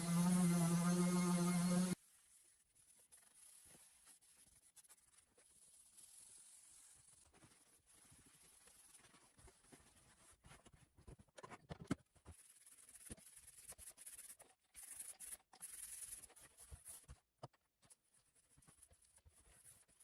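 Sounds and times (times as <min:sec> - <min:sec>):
rubbing and scraping: 0:00.0 - 0:17.1.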